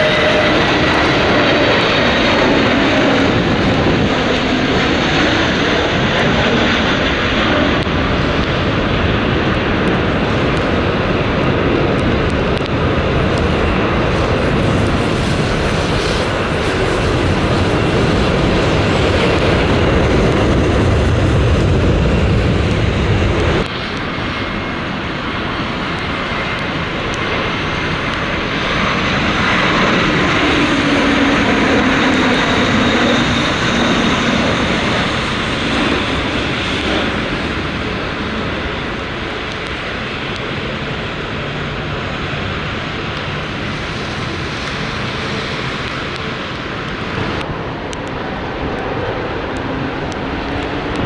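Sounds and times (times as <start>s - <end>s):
jet engine rumble: 0.0s - 51.0s
jet engine whine: 0.0s - 51.0s.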